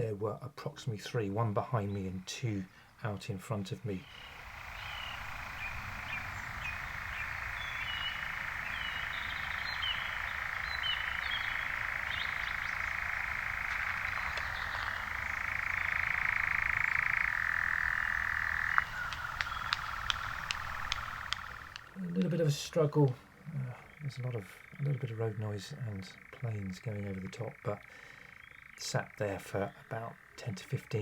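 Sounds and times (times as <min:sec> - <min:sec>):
nightjar churring trill: 0:03.9 - 0:31.0.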